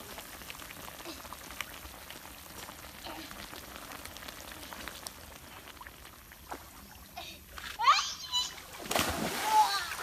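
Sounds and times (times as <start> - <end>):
shellfish simmering crackles: 0.0 - 8.5.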